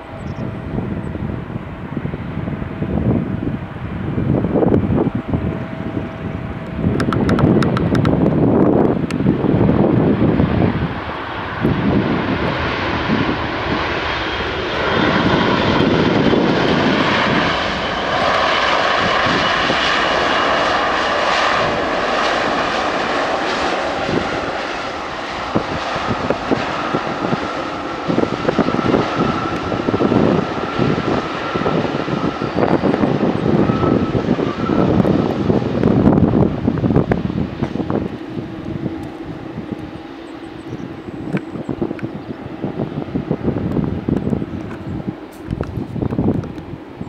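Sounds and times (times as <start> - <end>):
jet engines roaring in reverse thrust: 0.0 - 47.0
wind gusts on microphone: 0.0 - 47.0.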